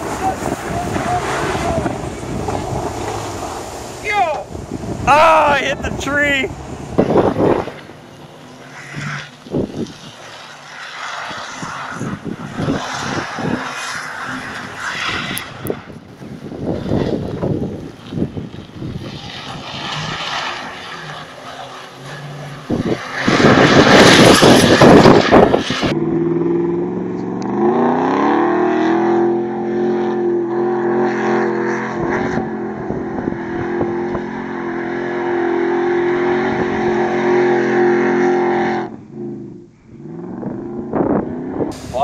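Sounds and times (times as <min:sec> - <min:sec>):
pickup truck engine revving: 0:00.0 - 0:04.0, 0:04.7 - 0:42.0.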